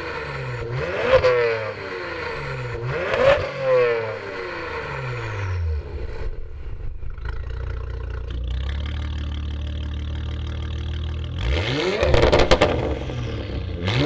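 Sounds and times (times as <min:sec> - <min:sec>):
car engine revving and idling: 0:00.0 - 0:14.0.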